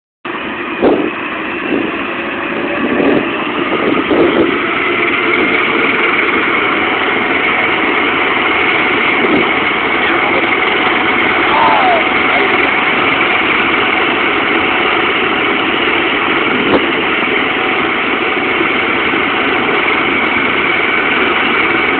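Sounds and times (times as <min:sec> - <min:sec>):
helicopter engine running: 0:00.3 - 0:21.9
high whine: 0:00.3 - 0:21.9.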